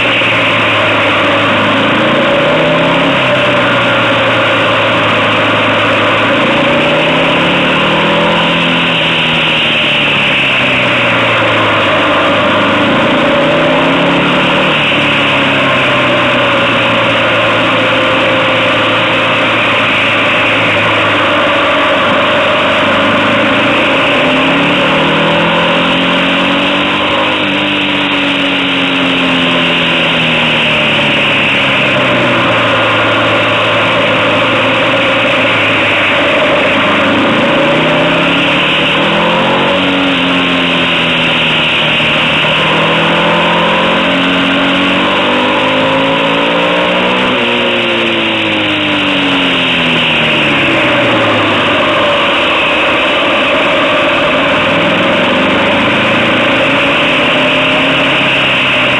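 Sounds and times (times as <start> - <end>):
motorcycle engine revving: 0.0 - 58.9
rushing wind noise: 0.0 - 58.9.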